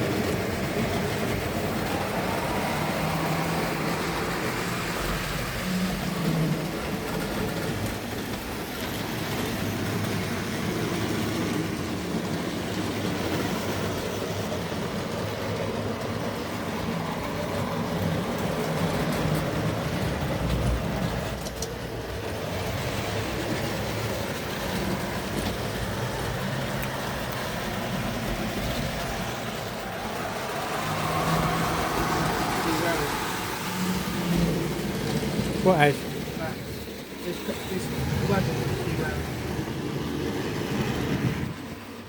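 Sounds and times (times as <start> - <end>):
model train motor hum: 0.0 - 41.7
wheels rumbling on rails: 0.0 - 42.0.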